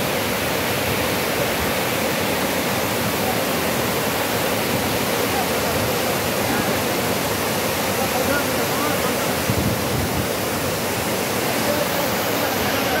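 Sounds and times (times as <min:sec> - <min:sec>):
waterfall crashing: 0:00.0 - 0:13.0.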